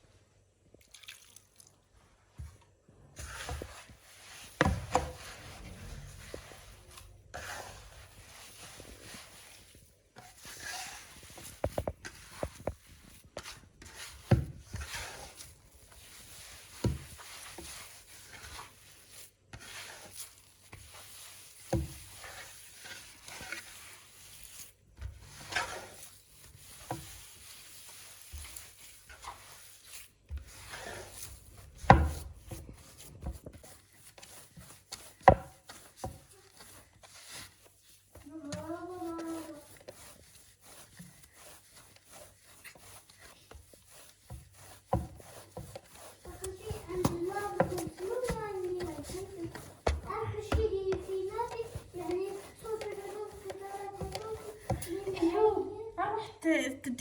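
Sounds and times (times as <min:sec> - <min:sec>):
hands rubbing dough: 0:02.1 - 0:56.2.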